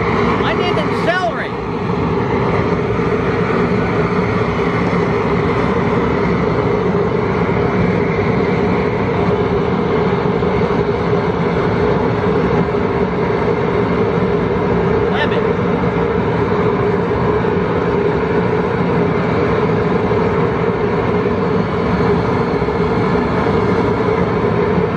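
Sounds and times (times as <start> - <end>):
gas burner roaring: 0.0 - 24.9.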